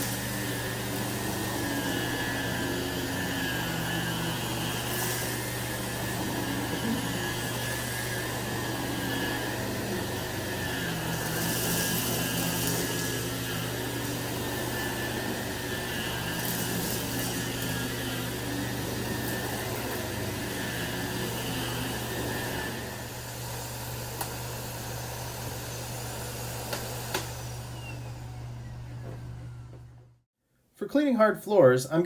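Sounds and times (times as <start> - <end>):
vacuum cleaner running on carpet: 0.0 - 30.0.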